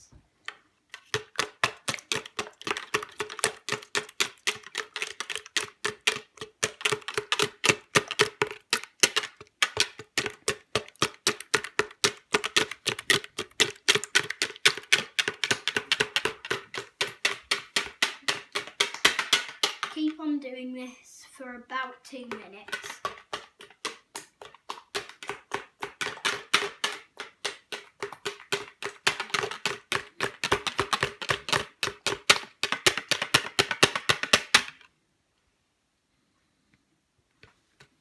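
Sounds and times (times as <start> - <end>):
wire whisk beating eggs in jug: 0.9 - 20.0, 22.2 - 34.5.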